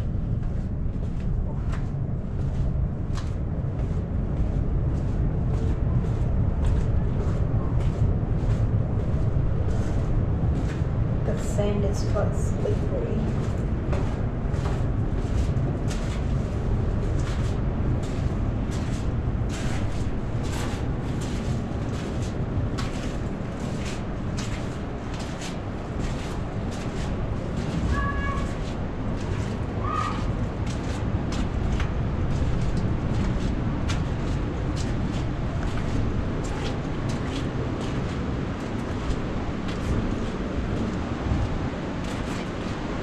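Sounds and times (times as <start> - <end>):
low rumble: 0.0 - 43.0
footsteps on sand: 0.2 - 43.0.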